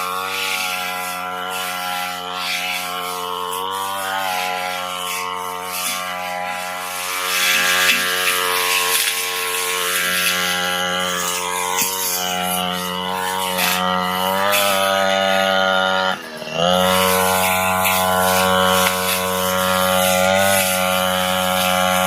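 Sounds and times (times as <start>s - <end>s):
brush cutter engine cutting grass: 0.0s - 22.0s.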